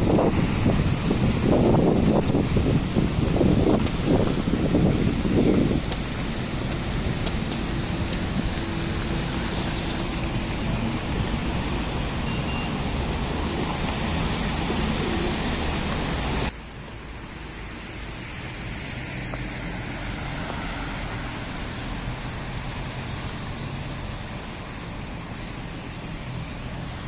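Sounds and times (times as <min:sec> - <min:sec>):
traffic noise with low rumble: 0:00.0 - 0:27.0.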